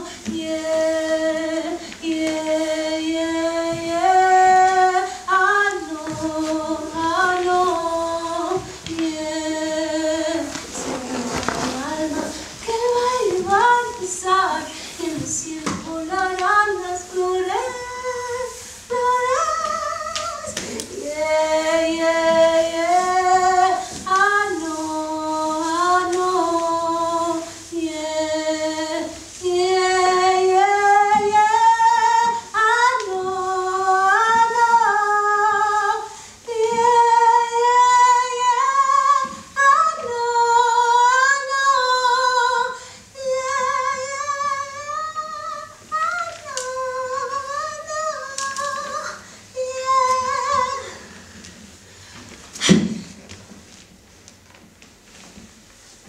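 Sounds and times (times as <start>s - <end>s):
woman singing with vibrato: 0.0s - 51.6s.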